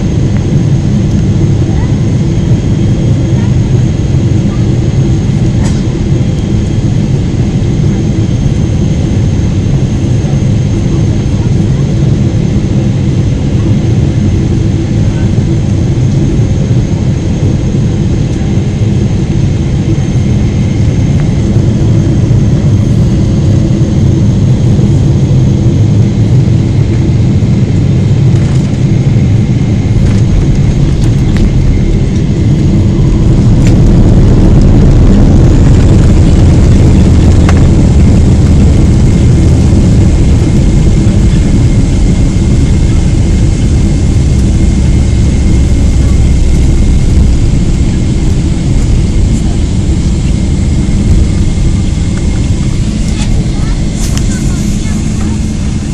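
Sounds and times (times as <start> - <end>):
jet engines rumbling in cabin: 0.0 - 55.9.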